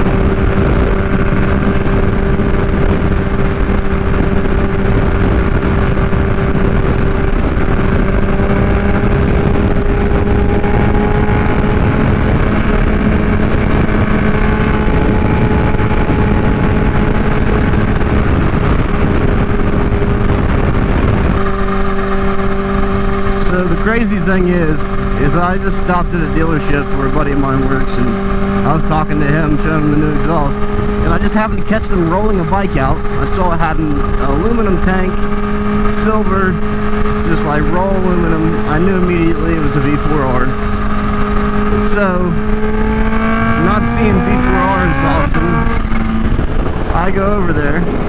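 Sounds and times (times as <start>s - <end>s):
motorcycle engine cruising: 0.0s - 48.0s
wind rush on microphone: 0.0s - 48.0s.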